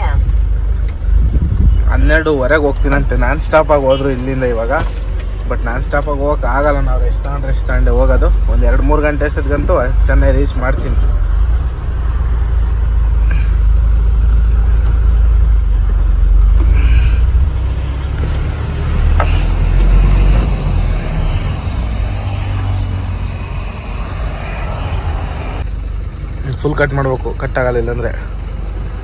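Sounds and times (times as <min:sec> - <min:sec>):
lorry engine and road rumble: 0:00.0 - 0:29.0.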